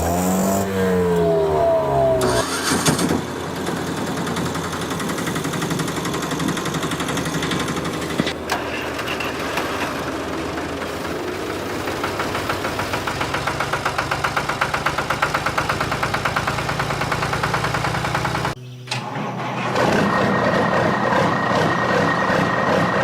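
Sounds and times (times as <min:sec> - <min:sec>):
engine idling: 0:00.0 - 0:23.0
engine revving: 0:00.0 - 0:23.0.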